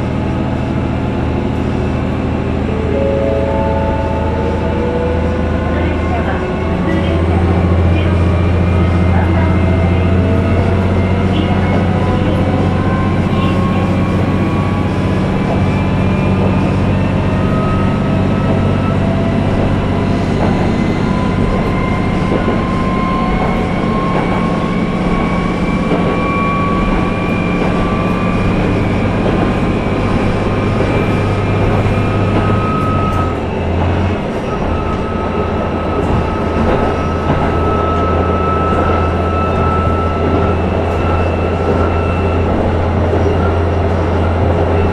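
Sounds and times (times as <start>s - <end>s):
diesel railcar engine drone: 0.0s - 44.9s.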